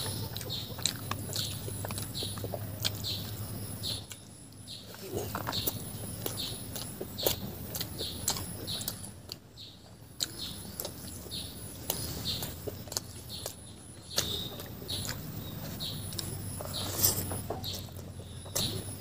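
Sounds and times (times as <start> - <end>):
chewing with wet mouth smacks: 0.0 - 19.0.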